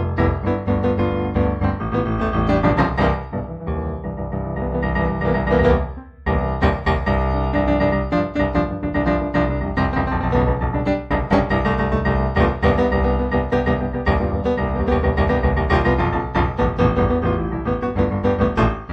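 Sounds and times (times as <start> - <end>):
solo piano music: 0.0 - 18.9.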